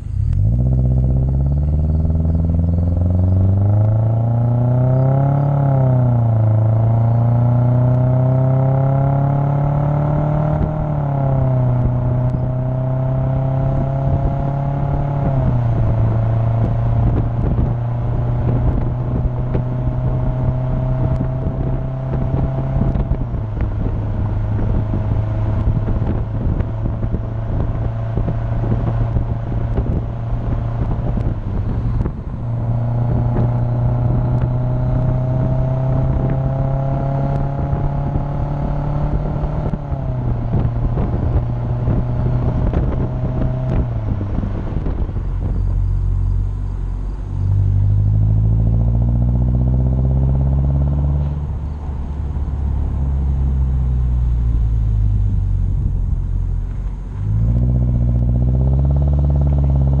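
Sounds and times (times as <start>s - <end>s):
car exhaust drone: 0.0s - 60.0s.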